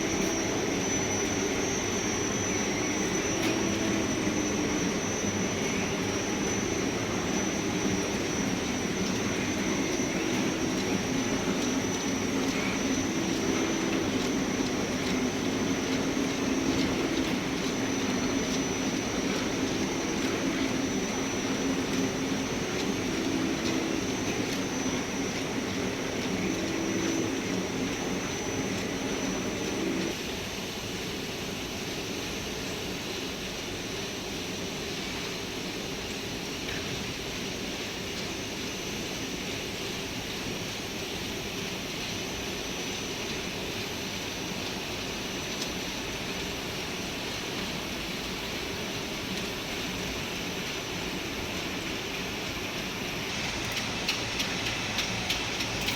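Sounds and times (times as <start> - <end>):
machinery high whine and hum: 0.0 - 55.9.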